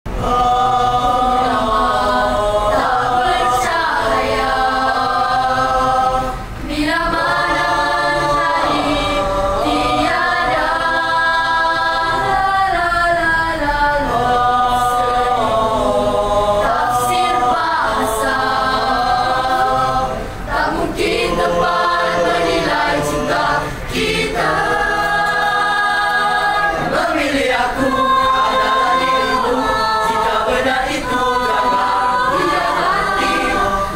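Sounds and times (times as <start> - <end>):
choir singing: 0.1 - 33.9.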